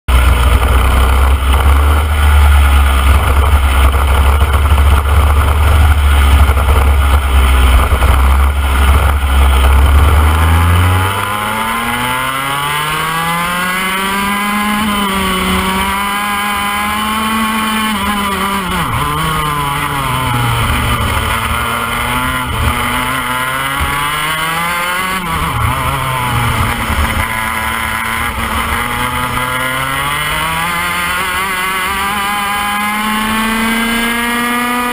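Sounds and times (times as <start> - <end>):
kart engine revving: 0.1 - 34.9.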